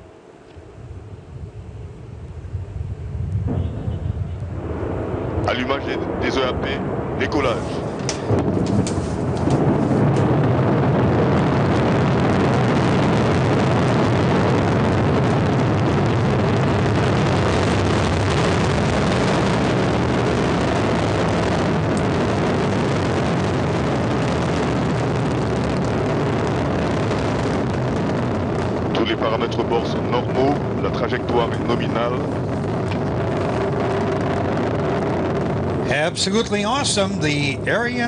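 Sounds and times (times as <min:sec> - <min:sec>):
rocket engines roaring: 0:00.0 - 0:38.0.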